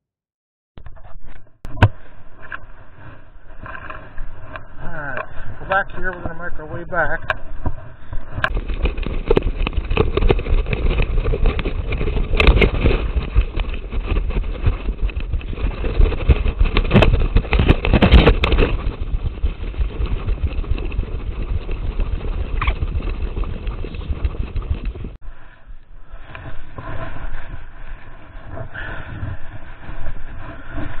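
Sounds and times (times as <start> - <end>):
wind buffeting microphone: 2.9 - 31.0.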